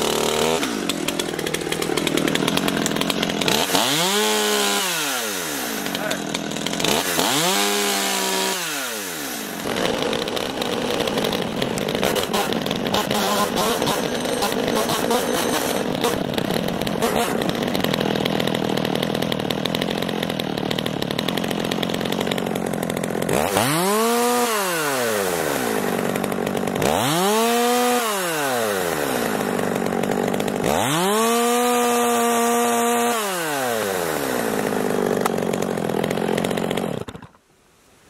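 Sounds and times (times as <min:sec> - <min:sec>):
chainsaw idling and revving: 0:00.0 - 0:37.4.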